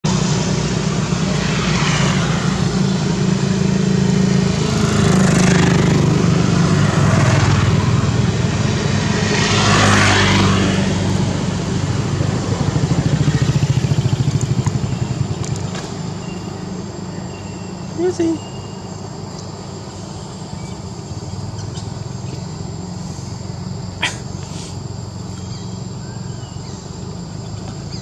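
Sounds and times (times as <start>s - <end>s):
low engine hum: 0.0s - 28.0s
vehicles and motorbikes passing: 0.0s - 28.0s.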